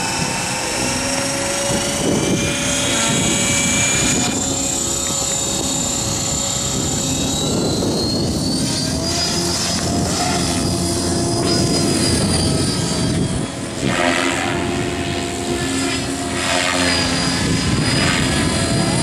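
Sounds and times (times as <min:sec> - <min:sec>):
rc helicopter rotor hum: 0:00.0 - 0:19.0.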